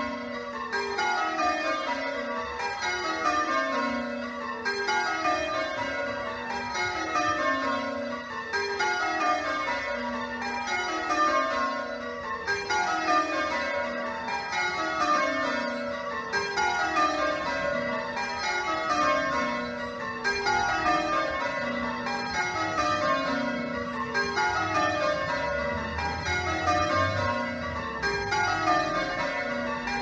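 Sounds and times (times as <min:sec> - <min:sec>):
church bells change ringing: 0:00.0 - 0:30.0.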